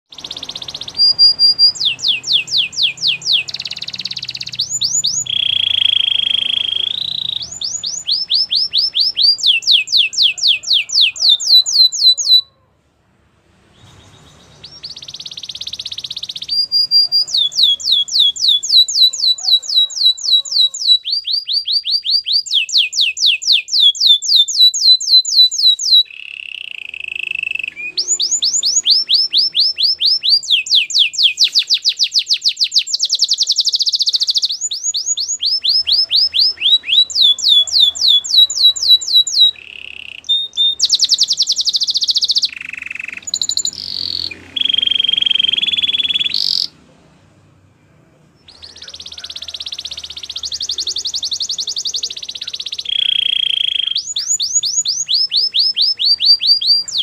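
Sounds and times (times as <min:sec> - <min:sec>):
canary singing trilled song: 0:00.1 - 0:12.7, 0:13.7 - 0:46.9, 0:48.4 - 0:57.0.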